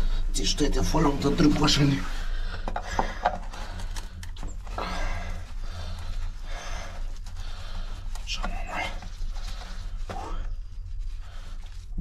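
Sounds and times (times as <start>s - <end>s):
steady low hum: 0.0s - 12.0s
person breathing hard: 2.0s - 12.0s.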